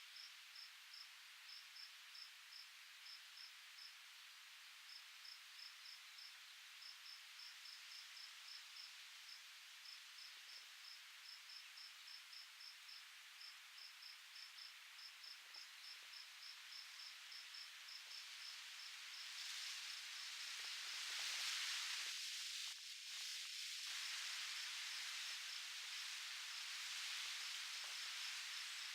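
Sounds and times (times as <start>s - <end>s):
soft breeze hiss: 0.0s - 28.9s
wind rustling foliage: 0.0s - 28.9s
insect chirping: 4.9s - 22.6s, 23.2s - 28.9s.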